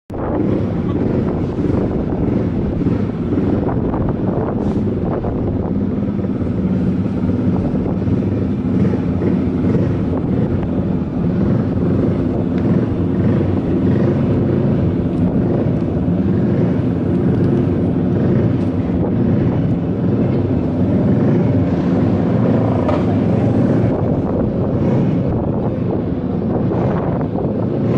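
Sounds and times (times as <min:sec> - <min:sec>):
motorcycle engine running: 0:00.1 - 0:27.9
wind buffeting microphone: 0:00.1 - 0:27.9.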